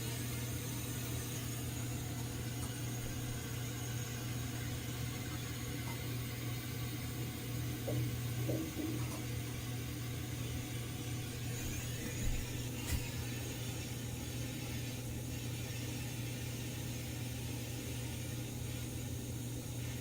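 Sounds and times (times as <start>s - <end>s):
gas torch hissing: 0.0s - 20.0s.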